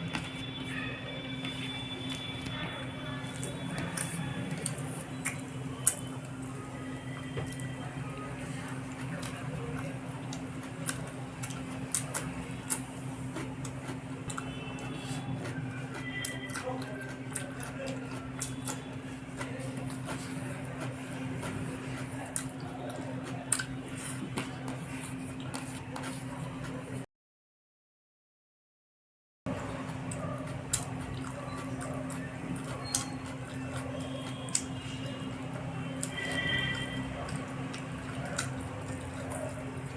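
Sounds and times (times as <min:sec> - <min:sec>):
wet chewing clicks and smacks: 0:01.4 - 0:07.9, 0:08.5 - 0:26.8, 0:29.8 - 0:39.9.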